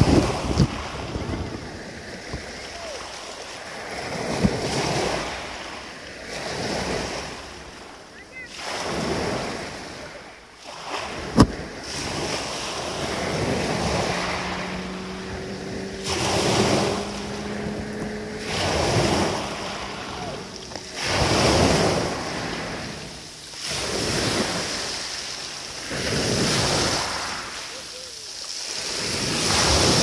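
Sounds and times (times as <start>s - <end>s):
waves breaking on pebble beach: 0.0s - 30.0s.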